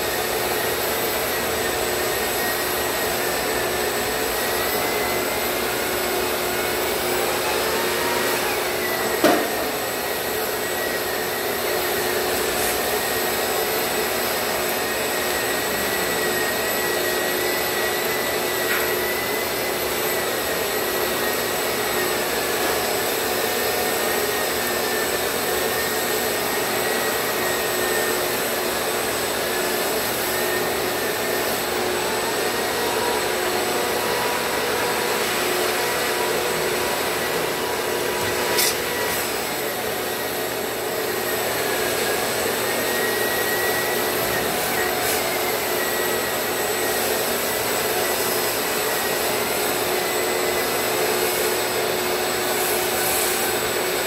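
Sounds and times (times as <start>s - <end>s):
shop vacuum running: 0.0s - 54.0s.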